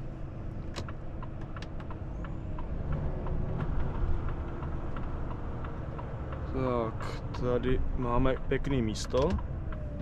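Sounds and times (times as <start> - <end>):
truck engine and tyres rumbling: 0.0 - 10.0.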